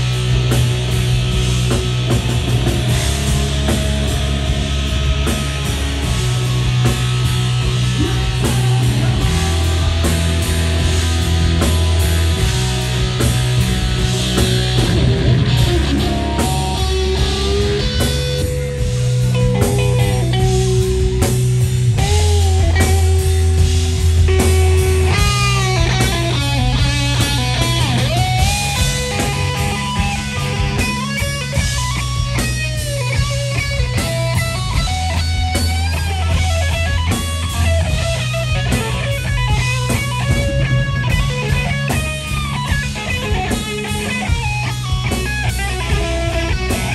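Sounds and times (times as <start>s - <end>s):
electric guitar lead bending notes: 0.0s - 46.9s
live rock band: 0.0s - 46.9s.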